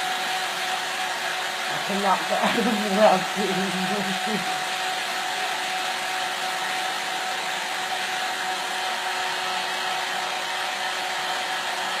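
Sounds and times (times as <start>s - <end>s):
hairdryer running: 0.0s - 12.0s.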